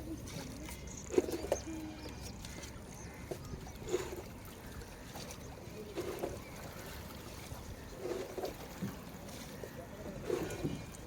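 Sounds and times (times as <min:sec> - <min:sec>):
water sloshing around a boat: 0:00.0 - 0:11.0.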